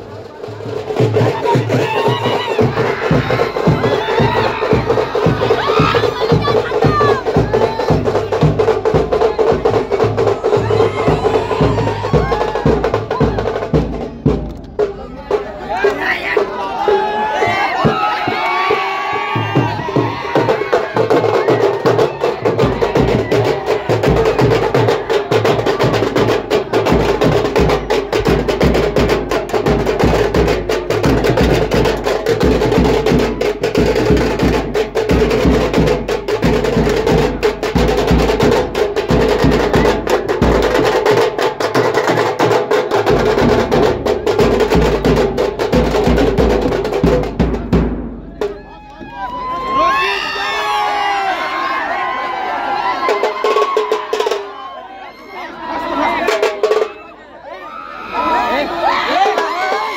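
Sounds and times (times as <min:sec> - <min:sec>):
deep bass drum beats: 0:00.0 - 0:50.0.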